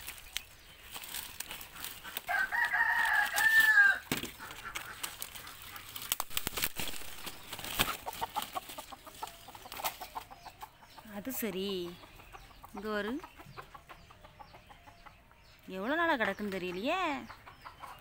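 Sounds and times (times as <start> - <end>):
chicken calling: 1.2 - 6.2, 6.9 - 18.0.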